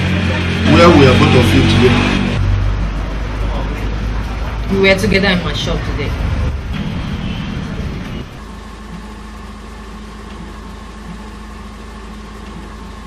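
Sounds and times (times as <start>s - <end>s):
steady machine hum with whine: 0.0s - 13.0s.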